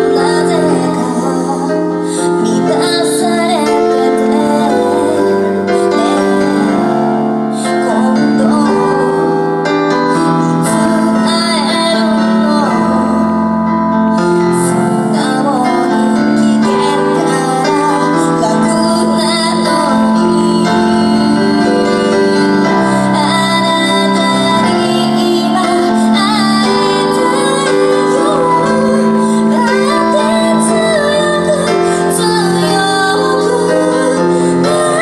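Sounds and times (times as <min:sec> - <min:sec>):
instrumental accompaniment: 0:00.0 - 0:35.0
woman singing into microphone: 0:00.0 - 0:35.0.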